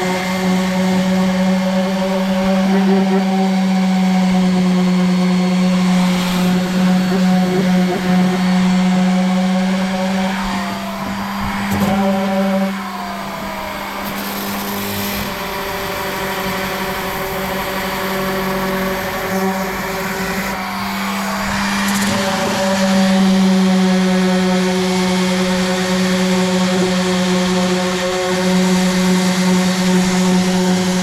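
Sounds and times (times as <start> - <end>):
electric sander on wood: 0.0 - 31.0.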